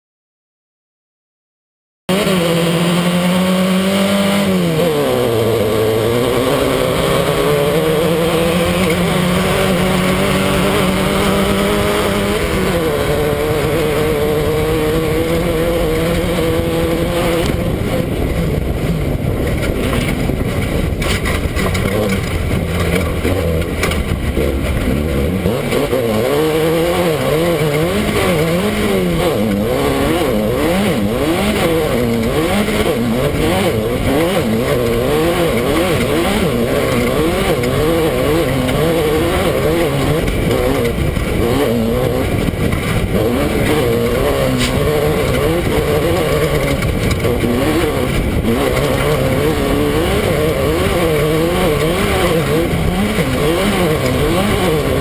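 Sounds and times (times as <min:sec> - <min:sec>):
race car engine revving: 0:02.1 - 0:55.0.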